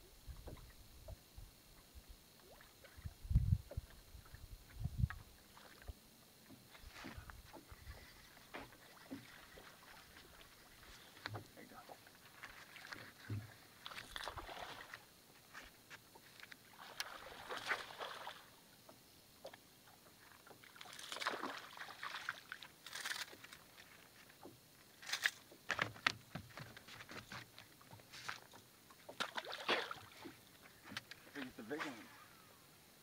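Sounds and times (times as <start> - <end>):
water splashing and sloshing: 0.0 - 32.4.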